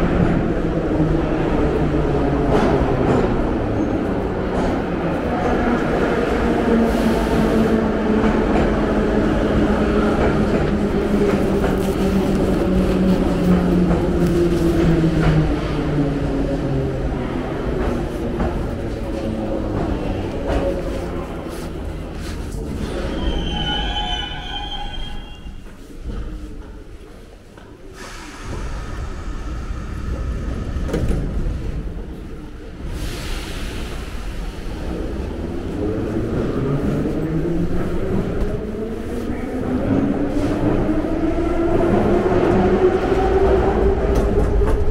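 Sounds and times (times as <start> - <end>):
train rumble: 0.0 - 44.9.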